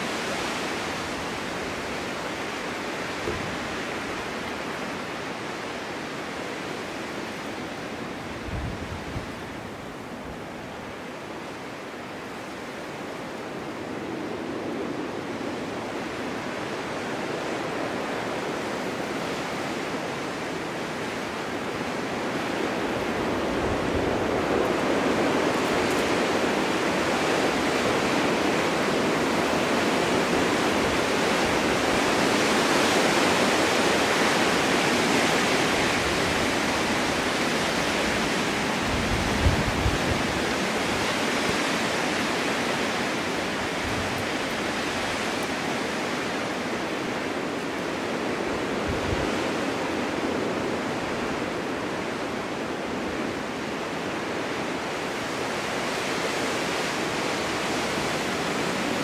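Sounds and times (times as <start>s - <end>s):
snowstorm wind blowing: 0.0s - 59.0s.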